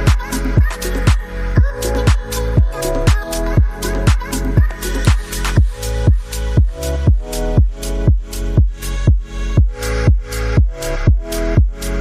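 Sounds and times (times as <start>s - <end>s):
kick drum: 0.1s - 11.8s.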